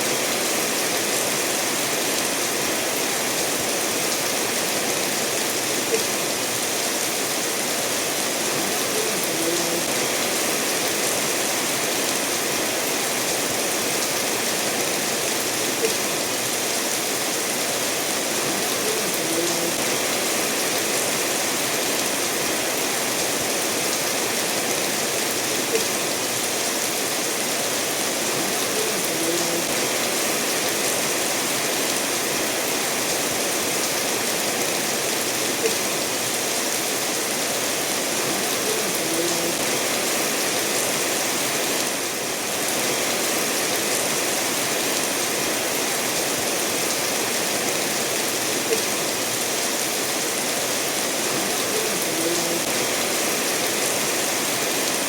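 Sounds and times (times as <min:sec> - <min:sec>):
steady rainfall: 0:00.0 - 0:55.0
stream flowing over stones: 0:00.0 - 0:55.0.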